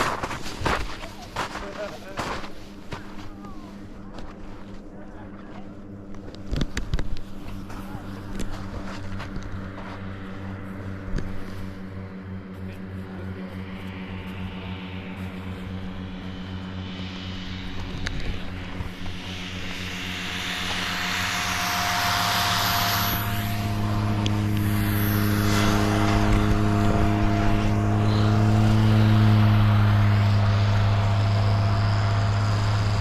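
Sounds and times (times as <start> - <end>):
propeller aircraft engine: 0.0 - 33.0.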